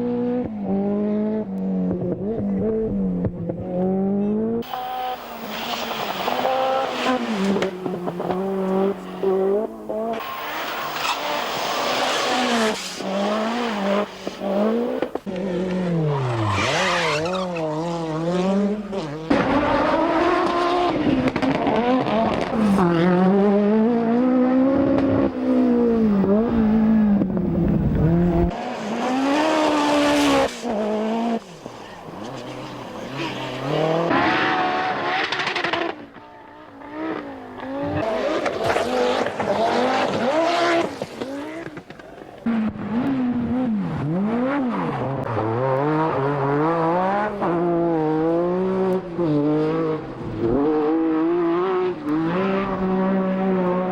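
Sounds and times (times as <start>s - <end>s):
rally car engines at full throttle: 0.0s - 53.9s.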